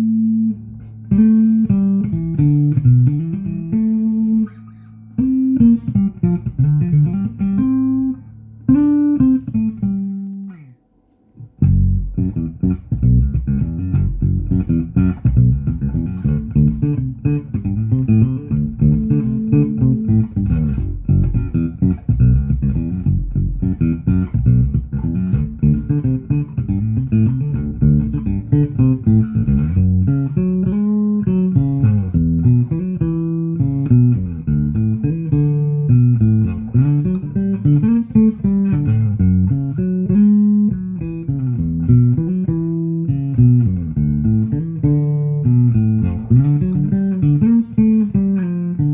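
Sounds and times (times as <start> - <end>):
bass guitar plucked notes: 0.0 - 48.9.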